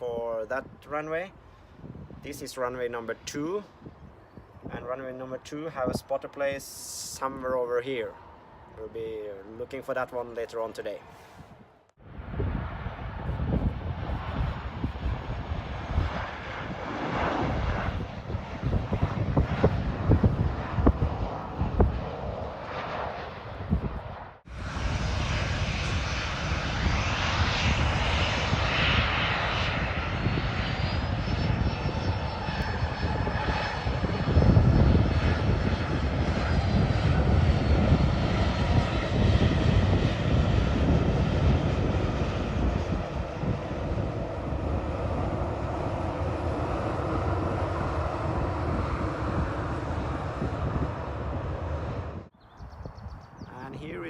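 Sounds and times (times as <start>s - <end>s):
jet airliner passing: 0.0s - 54.0s.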